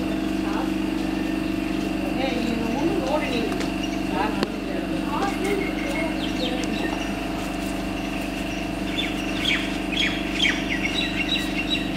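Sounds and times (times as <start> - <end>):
small birds chirping: 0.0 - 11.9
steady low hum: 0.0 - 11.9.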